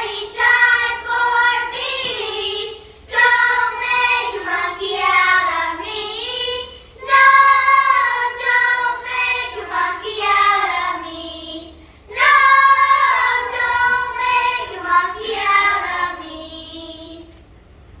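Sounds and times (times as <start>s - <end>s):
young children singing: 0.0s - 17.5s.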